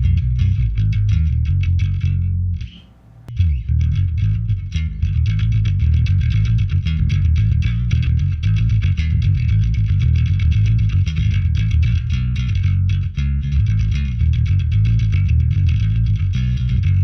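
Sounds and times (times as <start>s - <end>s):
electric bass playing: 0.0s - 17.0s.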